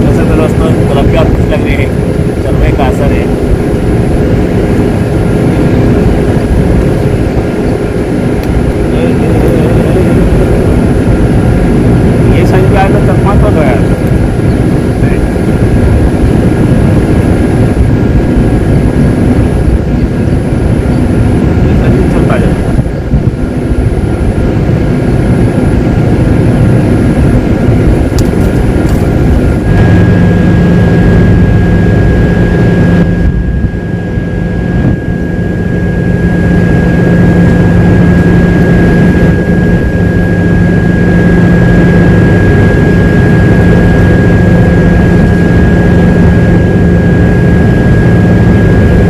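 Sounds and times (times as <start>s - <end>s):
loud rumbling noise: 0.0s - 49.0s
machine-like hum: 0.0s - 49.0s.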